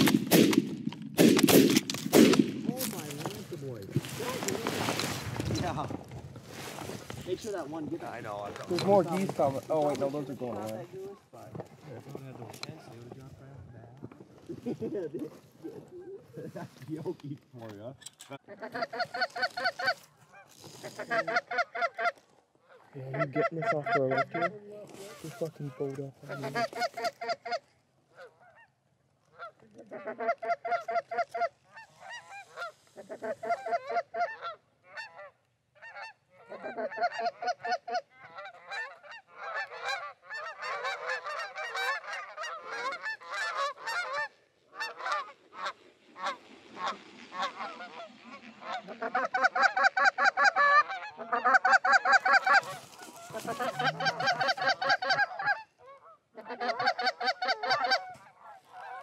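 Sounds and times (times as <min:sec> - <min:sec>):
geese honking and clucking: 0:03.1 - 0:12.0, 0:18.4 - 0:59.0.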